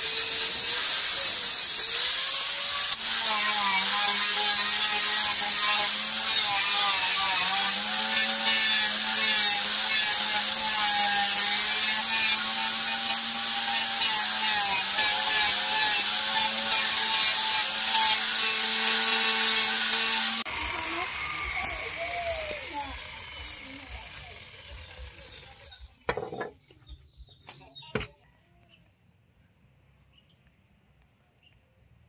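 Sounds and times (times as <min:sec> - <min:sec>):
angle grinder sanding wood: 0:00.0 - 0:26.5.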